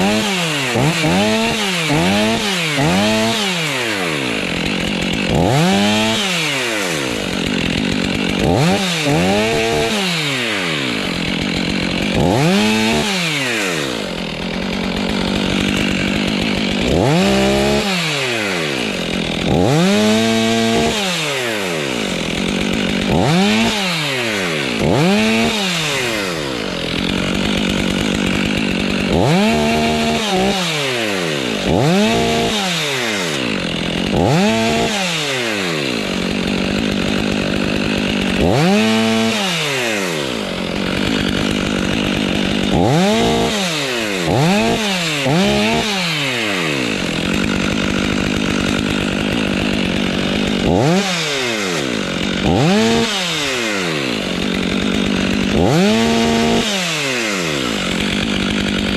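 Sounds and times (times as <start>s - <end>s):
chainsaw engine revving: 0.0s - 58.9s.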